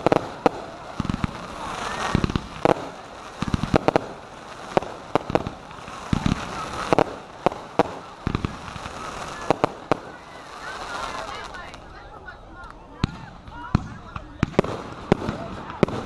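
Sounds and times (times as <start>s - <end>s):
crackling hiss: 0.0s - 16.0s
fireworks bangs and cracks: 0.0s - 16.0s.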